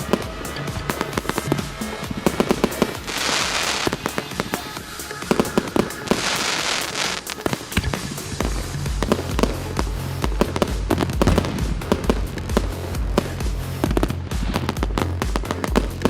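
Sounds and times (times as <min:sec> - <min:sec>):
firework cracks and pops: 0:00.0 - 0:16.0
firework hissing bursts: 0:00.0 - 0:16.0.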